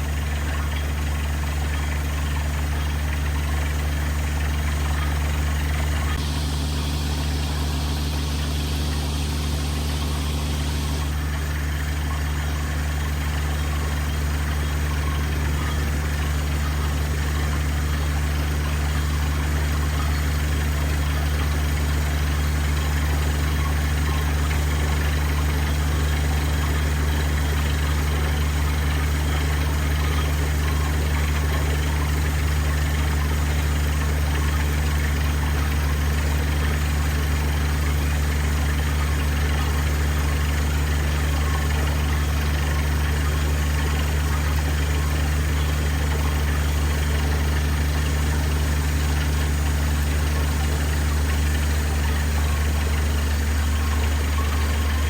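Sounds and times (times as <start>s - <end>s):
drilling rig engine humming: 0.0s - 55.0s.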